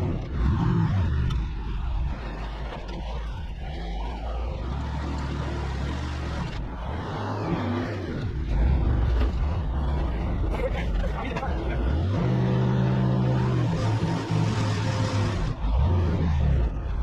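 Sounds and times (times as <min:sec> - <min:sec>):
truck engine droning: 0:00.0 - 0:17.0.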